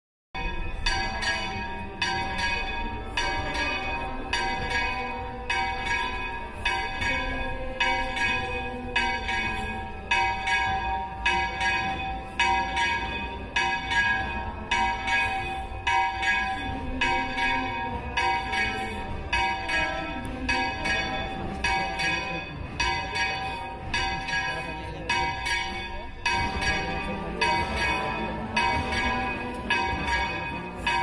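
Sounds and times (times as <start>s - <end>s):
church bells ringing: 0.4s - 31.0s.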